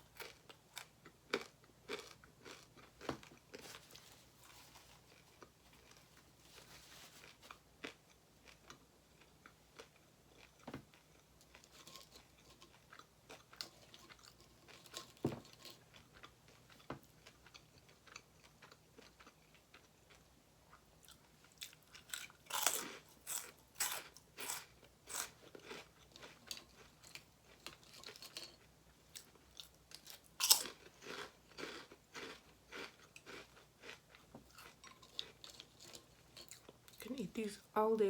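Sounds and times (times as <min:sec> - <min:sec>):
chewing crunchy food: 0:00.0 - 0:37.1.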